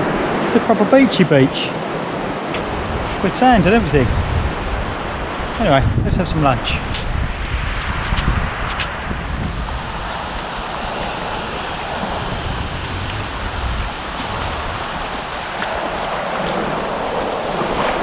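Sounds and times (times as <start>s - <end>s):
surf breaking on beach: 0.0s - 7.2s, 7.8s - 18.0s
wind buffeting microphone: 1.8s - 18.0s.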